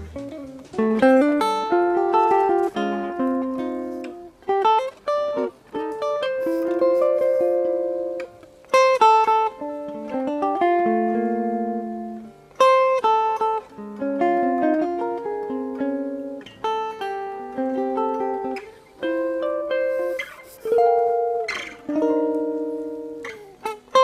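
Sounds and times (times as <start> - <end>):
solo jazz guitar chords: 0.0 - 24.0.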